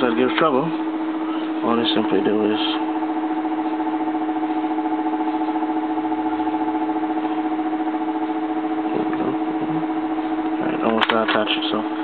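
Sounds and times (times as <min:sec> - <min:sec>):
hot-air blower whine: 0:00.0 - 0:12.0.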